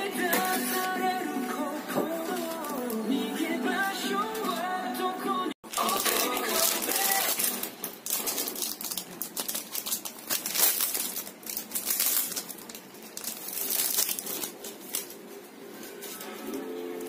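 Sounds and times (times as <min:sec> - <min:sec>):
plastic shrink-wrap crinkling: 0:00.2 - 0:04.7, 0:05.6 - 0:17.0.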